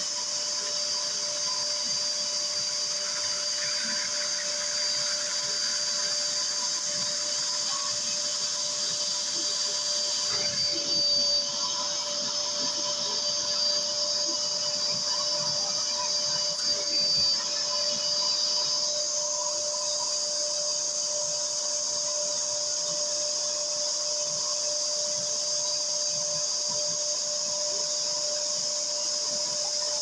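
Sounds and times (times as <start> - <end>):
wet vacuum motor whine: 0.0 - 30.0.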